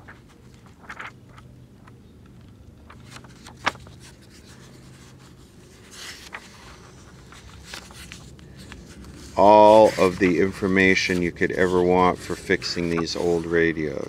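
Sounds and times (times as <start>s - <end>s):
book pages rustling: 0.0s - 14.0s
faint low hum: 0.0s - 14.0s.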